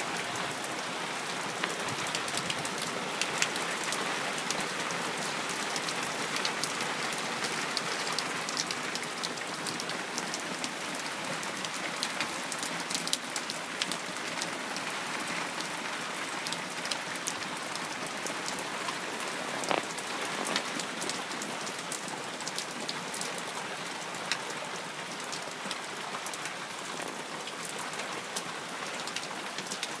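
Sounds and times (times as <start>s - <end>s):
heavy rain falling: 0.0s - 30.0s
raindrops ticking close by: 0.0s - 30.0s.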